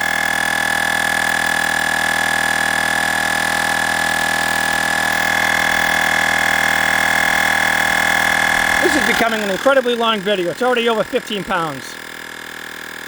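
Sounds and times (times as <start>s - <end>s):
air compressor whining drone: 0.0s - 13.0s.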